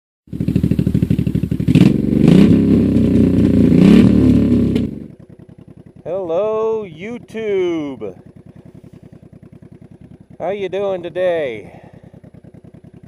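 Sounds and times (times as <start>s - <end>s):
motorcycle engine revving: 0.3s - 13.0s.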